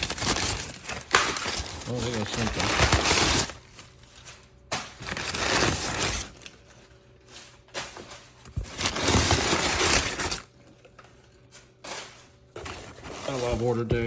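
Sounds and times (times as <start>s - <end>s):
packing material rustling: 0.0s - 14.0s.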